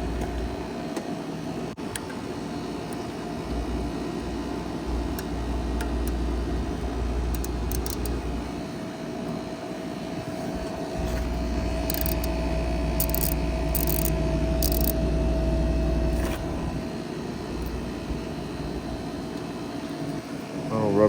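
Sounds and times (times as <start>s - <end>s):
air-conditioning unit hum: 0.0s - 21.0s
steady whine: 0.0s - 21.0s.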